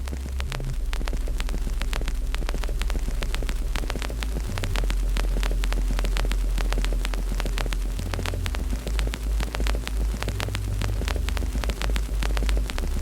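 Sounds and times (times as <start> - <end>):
steady low rumble: 0.0 - 13.0
wood fire crackling and popping: 0.0 - 13.0.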